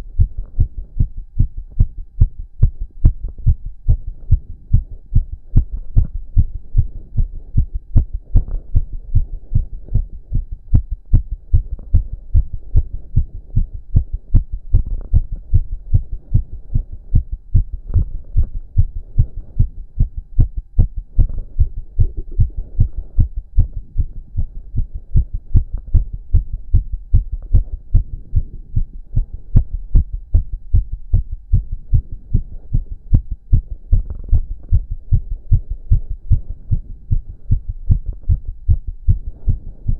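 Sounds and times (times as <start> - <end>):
heart beating fast: 0.0 - 39.9.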